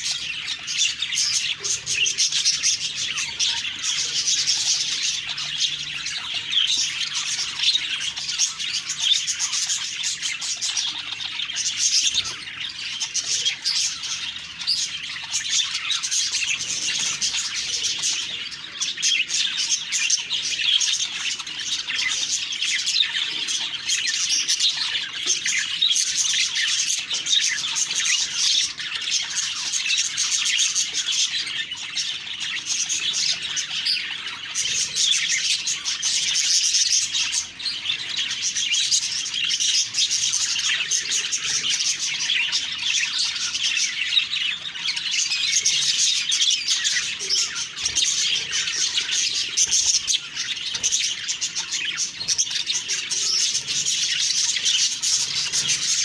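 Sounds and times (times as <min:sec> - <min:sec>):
budgerigars chattering and warbling: 0:00.0 - 0:56.0.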